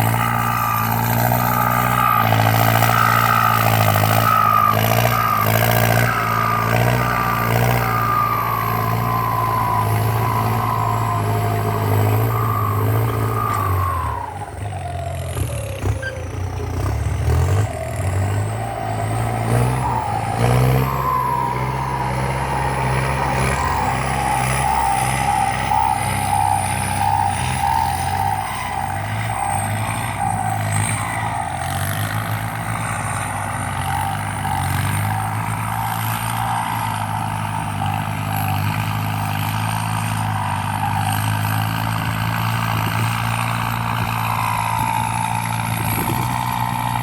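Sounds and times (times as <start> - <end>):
high turbo whistle: 0.0 - 14.6, 18.4 - 41.7
tractor diesel engine under load: 0.0 - 47.0.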